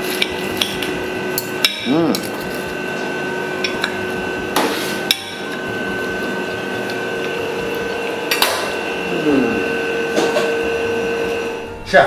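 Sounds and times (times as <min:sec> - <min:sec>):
steady held tones: 0:01.3 - 0:12.0.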